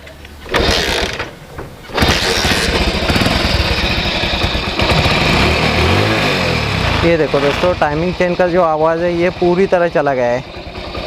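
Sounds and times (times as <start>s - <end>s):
motorcycle engine starting and idling: 0.0s - 11.0s.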